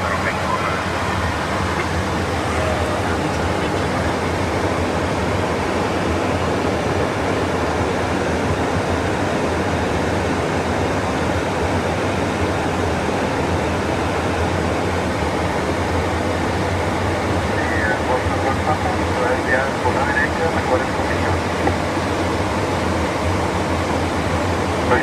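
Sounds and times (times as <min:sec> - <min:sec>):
constant low hum: 0:00.0 - 0:10.1, 0:15.0 - 0:25.0
airflow and engine noise: 0:00.0 - 0:25.0.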